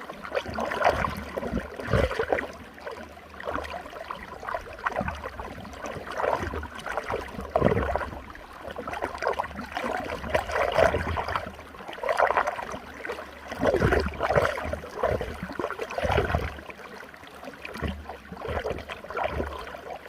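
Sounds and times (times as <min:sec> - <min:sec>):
water churning in a whirlpool: 0:00.0 - 0:20.0.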